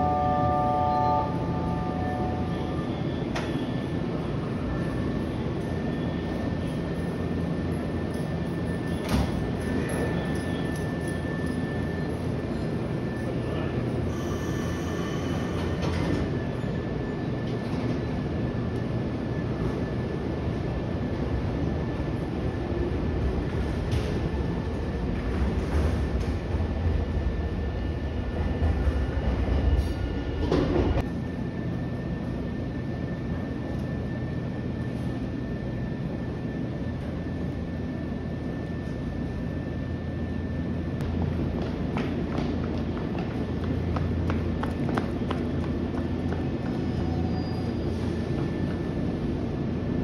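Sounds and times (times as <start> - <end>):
electric train low rumble: 0.0 - 50.0.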